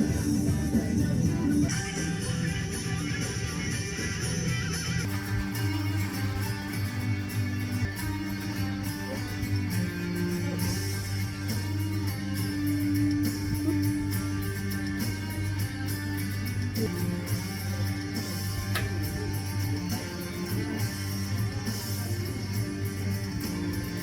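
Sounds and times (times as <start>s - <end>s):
guitar-led music: 0.0s - 24.0s.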